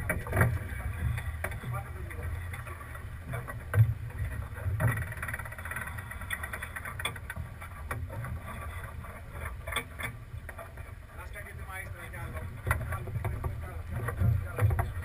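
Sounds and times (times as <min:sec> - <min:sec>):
knocks and clicks of boat gear: 0:00.0 - 0:15.0
water noise: 0:00.0 - 0:15.0.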